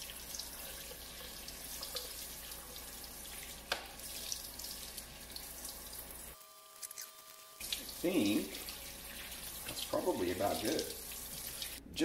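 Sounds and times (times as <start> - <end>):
faucet sprayer spraying water: 0.0 - 11.8.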